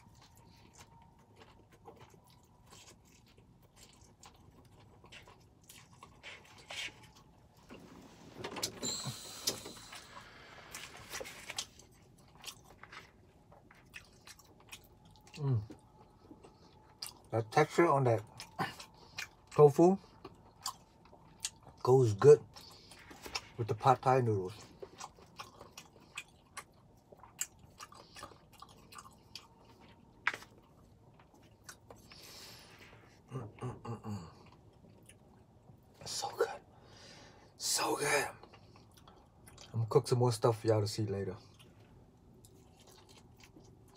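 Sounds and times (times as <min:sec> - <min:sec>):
person chewing noodles: 0:00.0 - 0:36.0, 0:38.1 - 0:39.8, 0:41.4 - 0:43.9.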